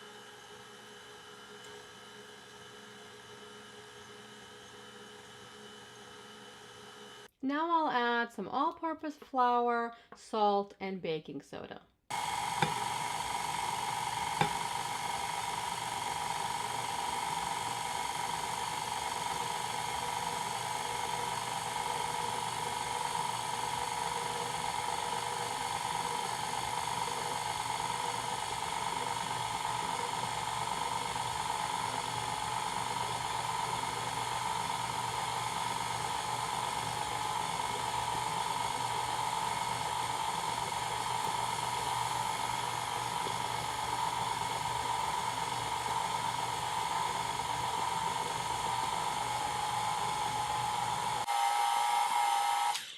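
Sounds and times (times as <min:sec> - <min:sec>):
stand mixer motor whine: 0:00.0 - 0:07.3, 0:12.1 - 0:52.9.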